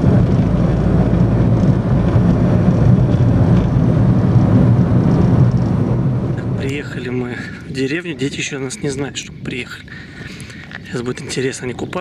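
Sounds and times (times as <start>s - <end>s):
car engine hum: 0.0s - 12.0s
road and wind rumble: 0.0s - 12.0s.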